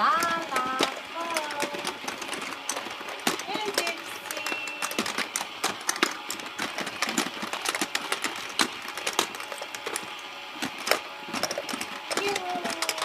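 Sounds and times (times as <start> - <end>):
toy mechanism clattering clicks: 0.0 - 13.0.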